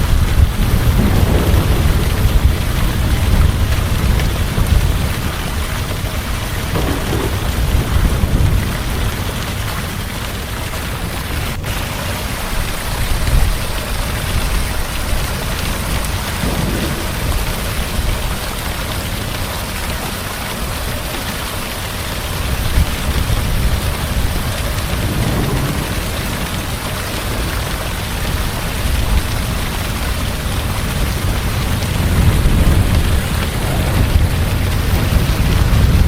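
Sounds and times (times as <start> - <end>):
heavy rain pouring: 0.0 - 36.0
thunder rumbling: 0.0 - 36.0.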